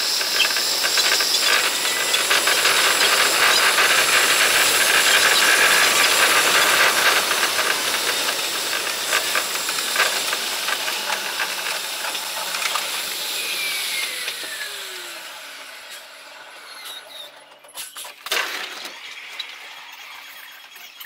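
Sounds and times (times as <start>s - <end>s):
train wheel and track hiss: 0.0s - 20.7s
train braking whine: 0.0s - 21.0s.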